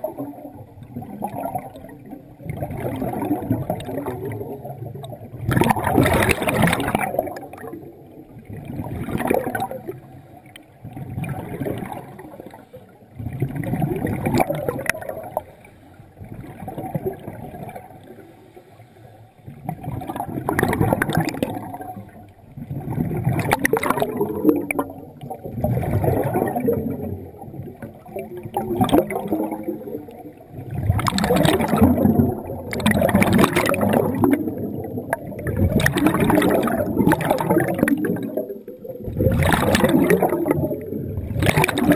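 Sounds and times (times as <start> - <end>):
air bubbles gurgling: 0.0 - 18.4, 19.4 - 41.9.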